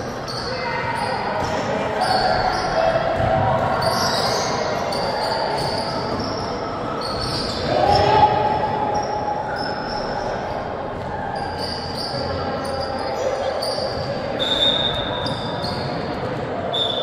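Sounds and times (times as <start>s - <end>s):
players' voices: 0.0s - 17.0s.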